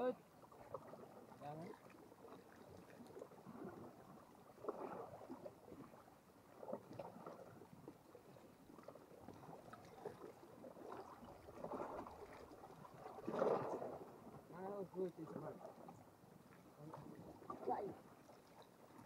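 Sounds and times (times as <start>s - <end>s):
water lapping at shore: 0.0s - 19.0s.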